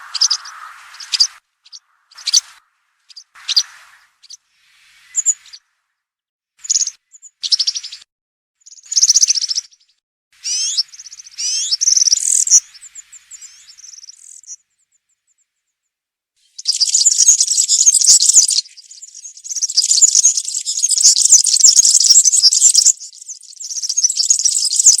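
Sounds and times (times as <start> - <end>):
small bird singing: 0.0 - 5.7, 6.6 - 15.5, 16.4 - 25.0.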